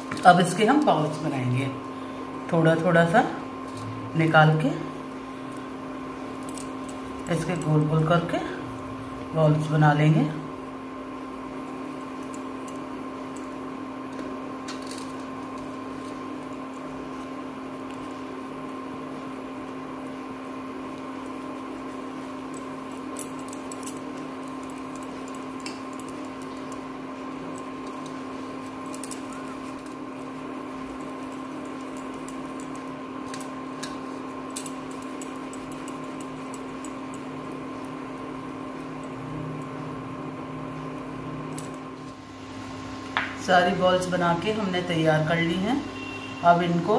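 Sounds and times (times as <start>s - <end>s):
electrical appliance hum: 0.0s - 46.9s.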